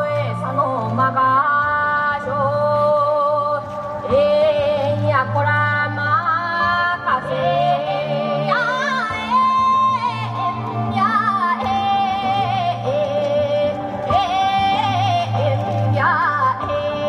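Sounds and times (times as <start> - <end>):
instrumental music with low bass: 0.0 - 17.0.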